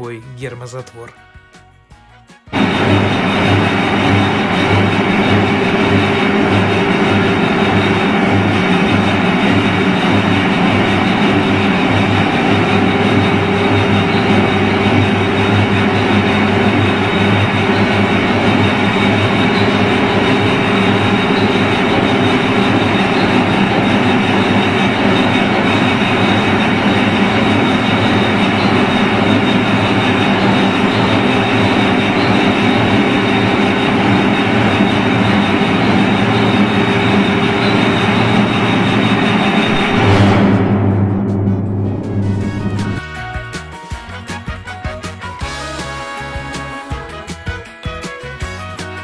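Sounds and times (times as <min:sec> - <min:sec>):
heavy steel door mechanism running: 0:02.5 - 0:43.1
thin high whine: 0:02.5 - 0:43.2.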